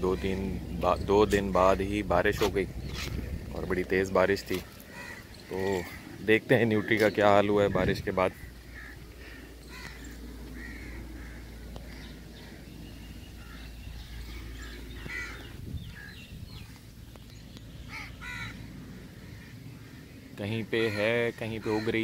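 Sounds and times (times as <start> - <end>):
low background rumble: 0.0 - 22.0
crows cawing: 1.6 - 7.1, 8.2 - 16.3, 17.8 - 22.0.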